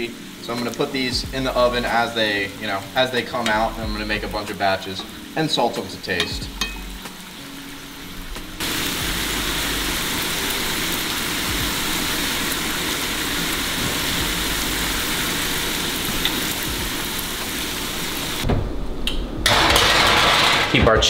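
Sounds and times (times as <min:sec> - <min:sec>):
chips frying in hot oil: 0:00.0 - 0:18.4, 0:19.5 - 0:20.8.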